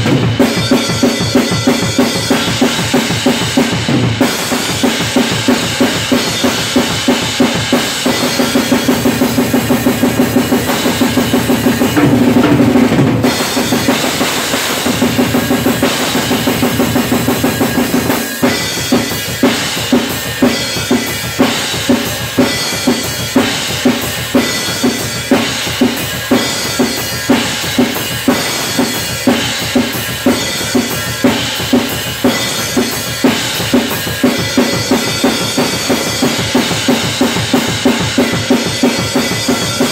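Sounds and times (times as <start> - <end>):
metal drum kit playing: 0.0 - 39.9.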